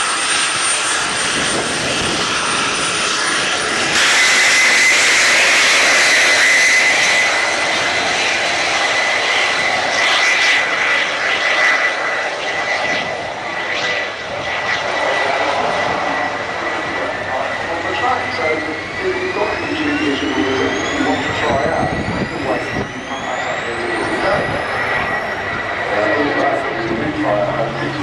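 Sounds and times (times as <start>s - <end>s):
jet engine roar with high whine: 0.0s - 28.0s.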